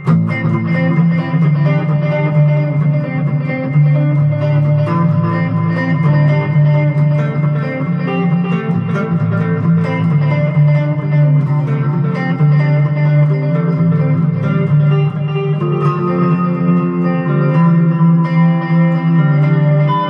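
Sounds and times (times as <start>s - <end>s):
electric guitar picked chords: 0.0s - 20.0s.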